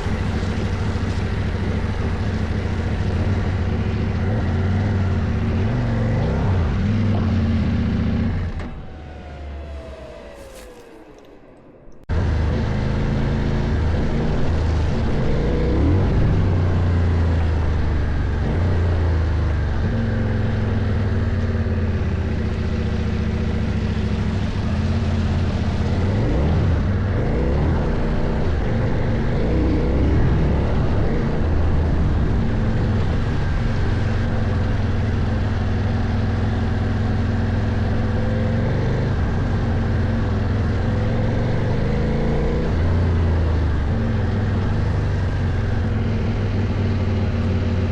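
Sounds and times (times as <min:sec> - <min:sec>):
motorcycle engine revving: 0:00.0 - 0:11.4, 0:12.1 - 0:47.9.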